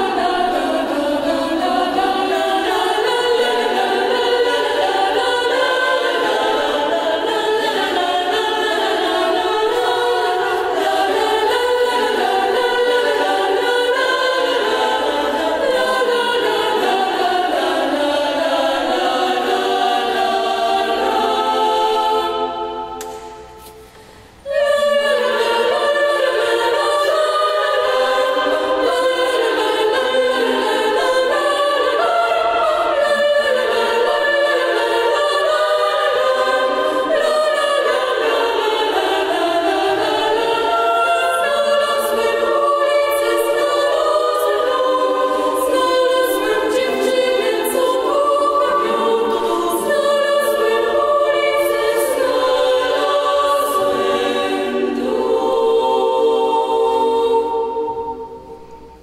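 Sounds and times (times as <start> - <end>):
girls' choir singing in harmony: 0.0 - 59.0.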